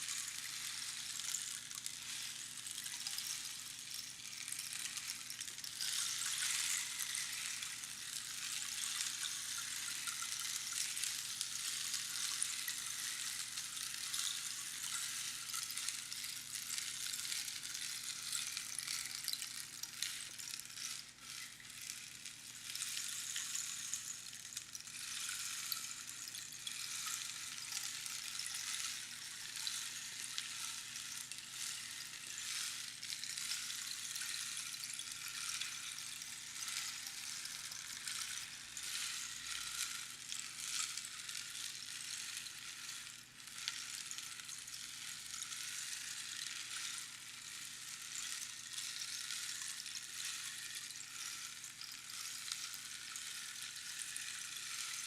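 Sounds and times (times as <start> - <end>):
rainstick pattering hiss: 0.0 - 55.0.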